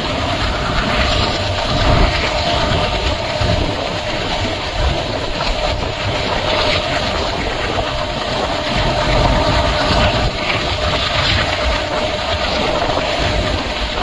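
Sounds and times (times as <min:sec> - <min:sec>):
constant hum: 0:00.0 - 0:14.0
train coaches rumbling: 0:00.0 - 0:14.0.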